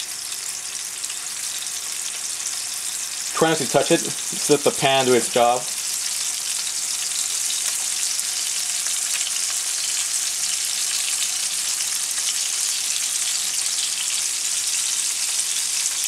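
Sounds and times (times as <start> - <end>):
fish searing in a frying pan: 0.0 - 16.0.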